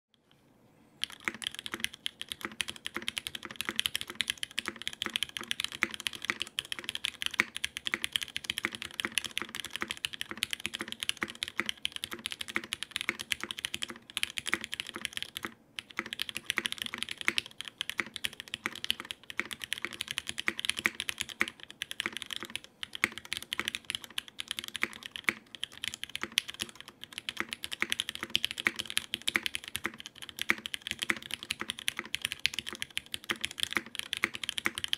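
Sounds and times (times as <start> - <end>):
mechanical keyboard typing: 1.0 - 34.9.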